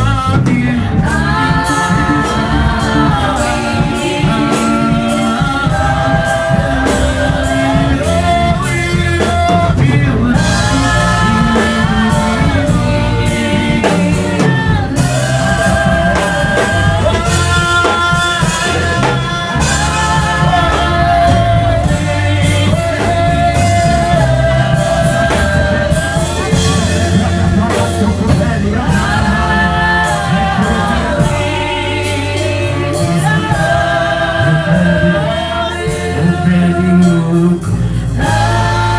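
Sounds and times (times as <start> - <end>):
worship music with singing and band: 0.0 - 38.9.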